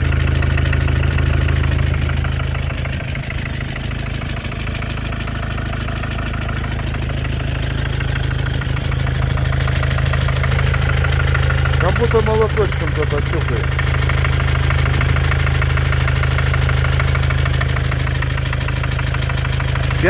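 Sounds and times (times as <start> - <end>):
diesel engine idling: 0.0 - 20.0
engine ticking knock: 0.0 - 20.0.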